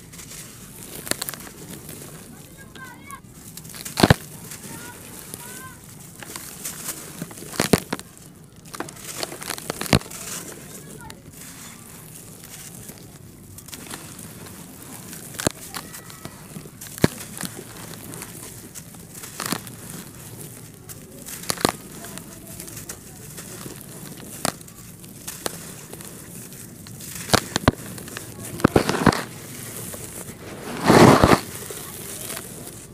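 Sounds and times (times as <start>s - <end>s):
dirt chunk cracking: 0.0s - 32.9s
dirt trickling: 0.0s - 32.9s.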